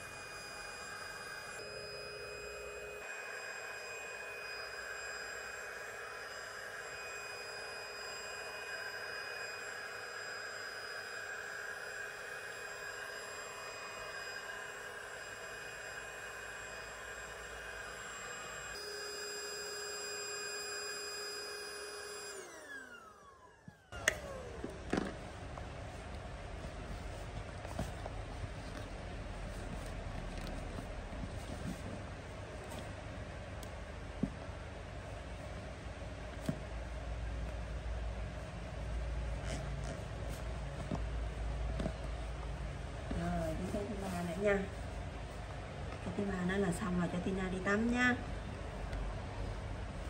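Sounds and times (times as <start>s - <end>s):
electric air pump running: 0.0s - 33.1s, 37.4s - 50.0s.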